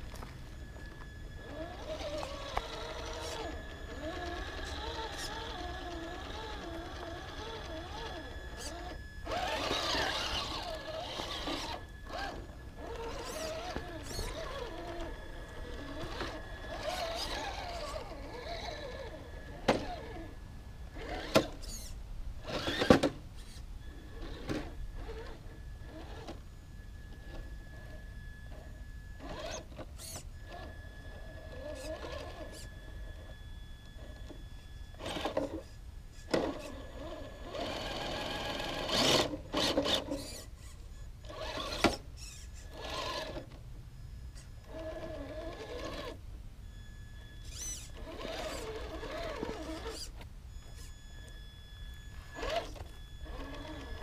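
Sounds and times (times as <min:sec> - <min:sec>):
electric motor whining in spurts: 0:00.0 - 0:54.0
thin steady high whine: 0:00.0 - 0:54.0.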